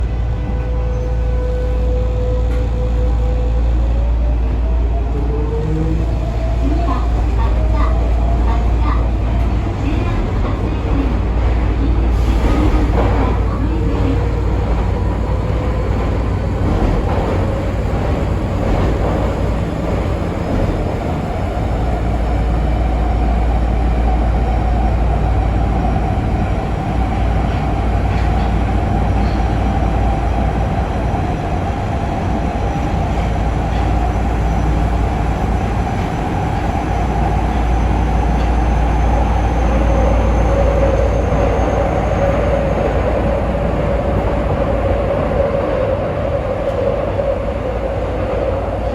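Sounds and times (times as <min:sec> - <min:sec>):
train wheels rumbling on rail: 0:00.0 - 0:48.9.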